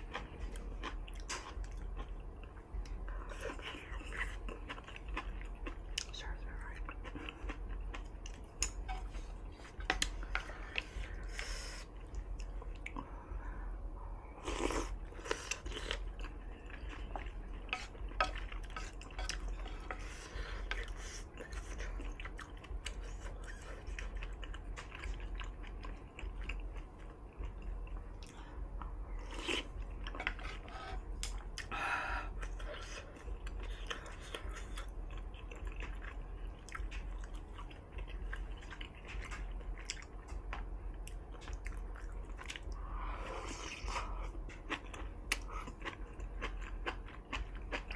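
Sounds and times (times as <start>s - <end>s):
close chewing with wet clicks: 0.0s - 9.2s, 14.5s - 42.8s, 43.5s - 47.9s.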